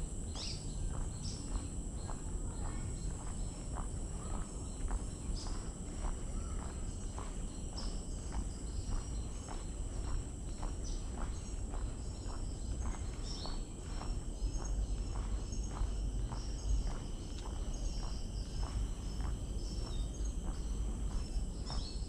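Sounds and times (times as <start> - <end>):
footsteps on boardwalk: 0.0 - 22.0
high insect drone: 0.0 - 22.0.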